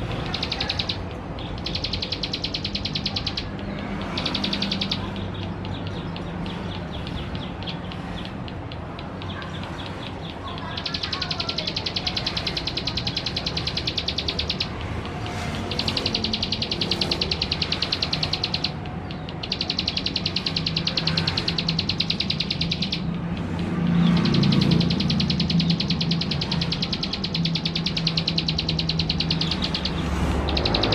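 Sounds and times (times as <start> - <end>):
bird singing buzzy trill: 0.0 - 30.9.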